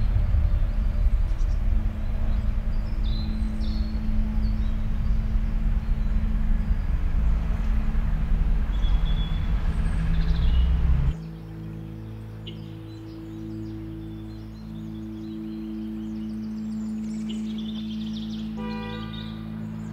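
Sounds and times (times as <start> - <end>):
street traffic rumble: 0.0 - 16.3, 17.0 - 19.9
steady hum: 0.0 - 18.6
birds chirping: 0.0 - 19.9.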